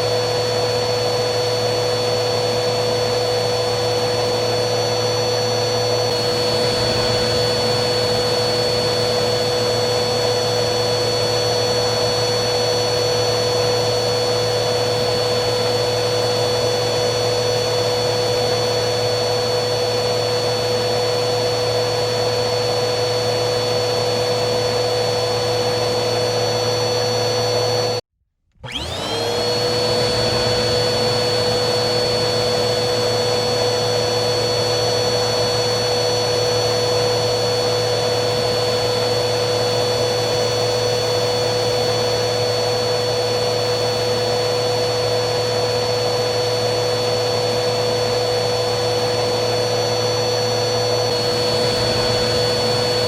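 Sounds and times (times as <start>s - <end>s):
vacuum cleaner motor whining: 0.0s - 53.0s.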